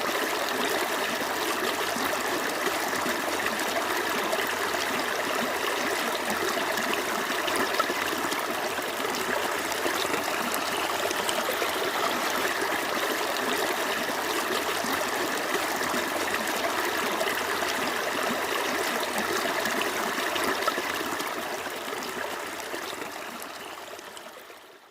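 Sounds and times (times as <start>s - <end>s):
creek water babbling: 0.0s - 24.9s.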